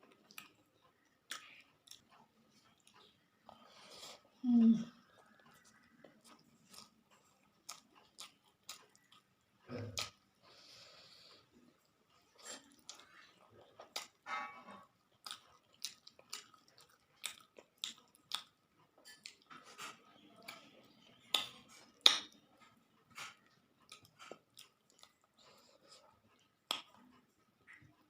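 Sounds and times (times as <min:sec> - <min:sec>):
close chewing and lip smacks: 0:00.0 - 0:28.0.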